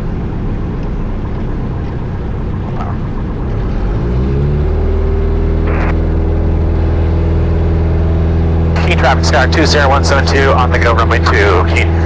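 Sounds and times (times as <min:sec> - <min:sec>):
airplane engine and propeller: 0:00.0 - 0:12.0.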